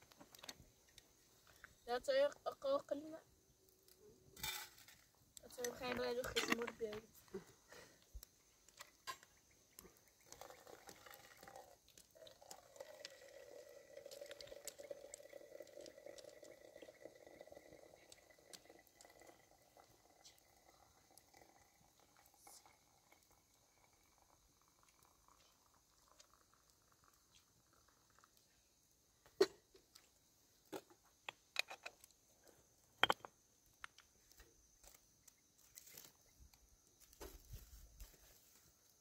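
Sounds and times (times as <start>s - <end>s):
faint steady liquid sound: 0.0s - 39.0s.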